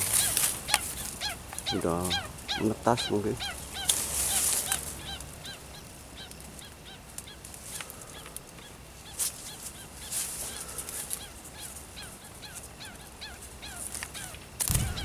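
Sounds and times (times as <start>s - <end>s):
birds chirping: 0.0s - 15.0s
dry reeds rustling: 0.0s - 15.0s.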